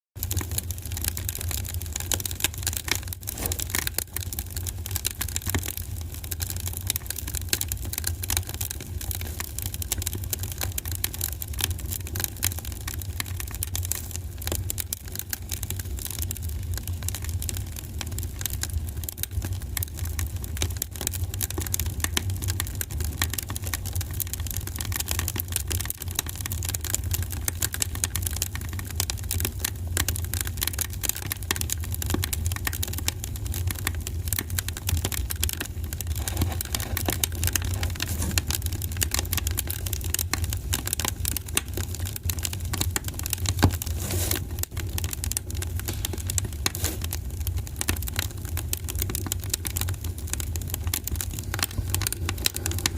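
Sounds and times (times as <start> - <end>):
fire low rumble: 0.2 - 52.9
wood fire crackling and popping: 0.2 - 52.9.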